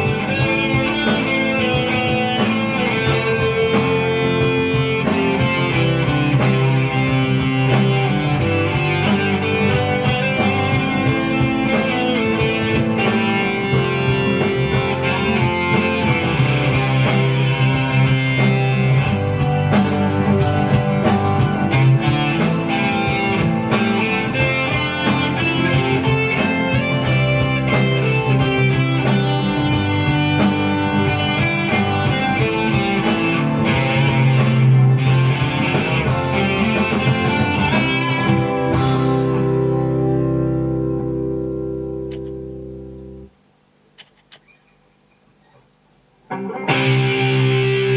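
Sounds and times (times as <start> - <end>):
long low bass notes: 0.0 - 43.4
guitar playing quick plucked notes: 0.0 - 47.9.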